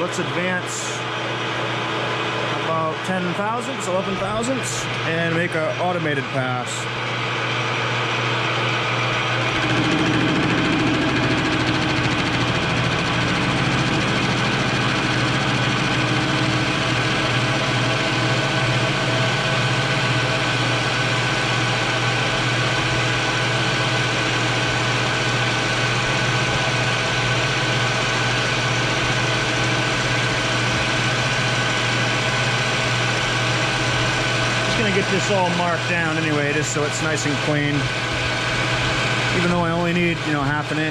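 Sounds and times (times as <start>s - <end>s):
metal lathe running: 0.0s - 40.9s.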